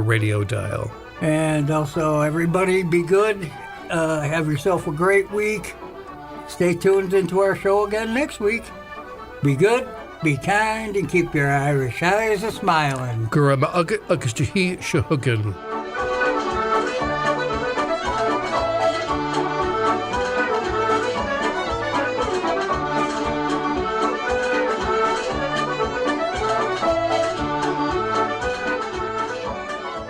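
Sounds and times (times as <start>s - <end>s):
instrumental irish folk tune: 0.0s - 30.0s.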